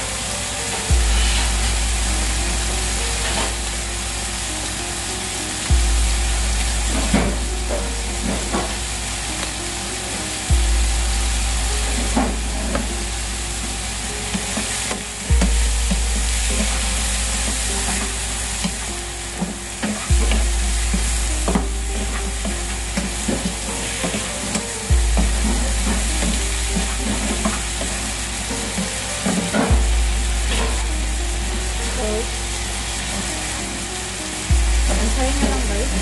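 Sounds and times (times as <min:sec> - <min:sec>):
shrimp sizzling in a pan: 0:00.0 - 0:36.0
low hum: 0:00.9 - 0:04.7, 0:05.6 - 0:09.5, 0:10.5 - 0:23.8, 0:24.9 - 0:28.6, 0:29.7 - 0:32.8, 0:34.5 - 0:36.0.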